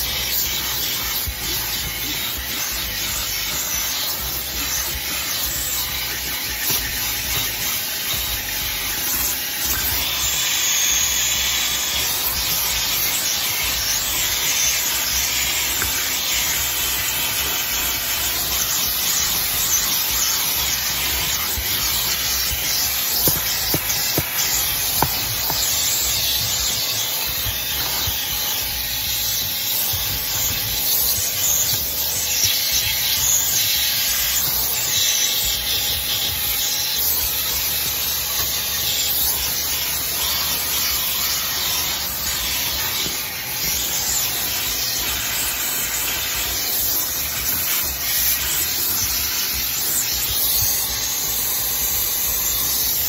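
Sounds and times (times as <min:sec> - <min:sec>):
shop vacuum running: 0:00.0 - 0:53.0.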